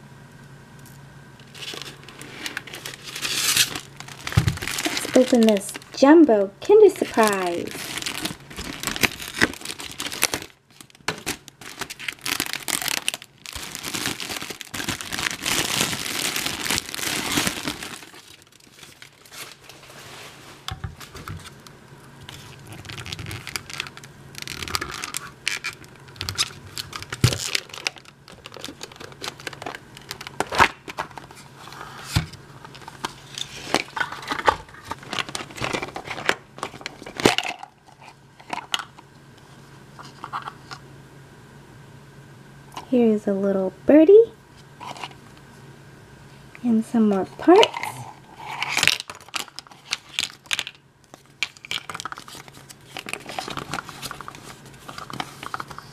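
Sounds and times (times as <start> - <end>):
foil wrapper crinkling and tearing: 1.4 - 20.0, 20.7 - 39.0, 47.4 - 55.9.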